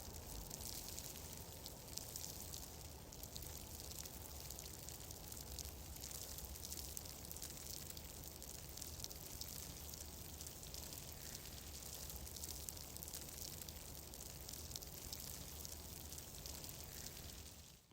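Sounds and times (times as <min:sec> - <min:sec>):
fireplace fire crackling: 0:00.0 - 0:17.9.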